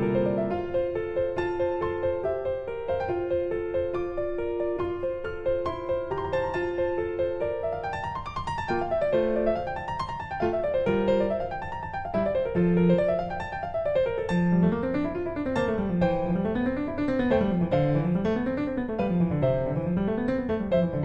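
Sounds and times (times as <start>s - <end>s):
piano arpeggios: 0.0s - 21.0s.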